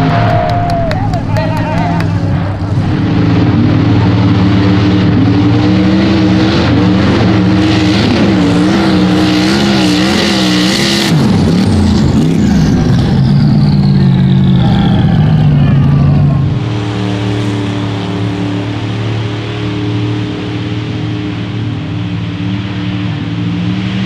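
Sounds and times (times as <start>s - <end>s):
engine whine: 0.0s - 24.0s
truck engine revving: 0.0s - 24.0s.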